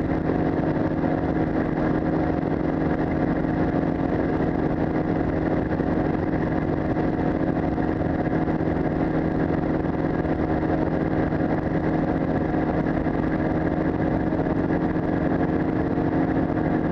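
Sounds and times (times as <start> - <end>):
engine and propeller running: 0.0 - 16.9.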